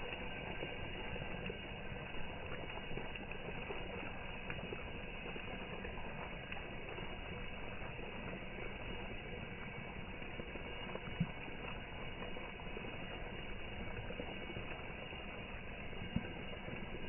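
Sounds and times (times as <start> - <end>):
water boiling: 0.0 - 17.0.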